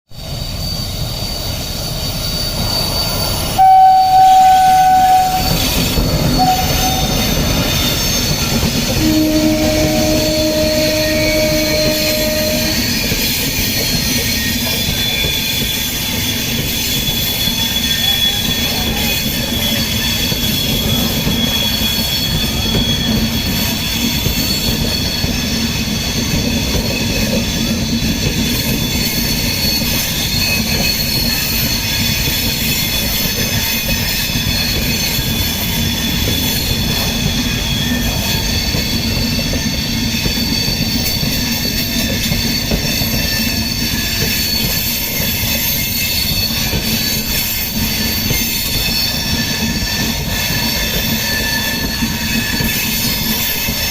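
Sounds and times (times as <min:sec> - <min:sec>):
train rumble: 0:00.1 - 0:53.9
train wheels squealing: 0:00.1 - 0:53.9.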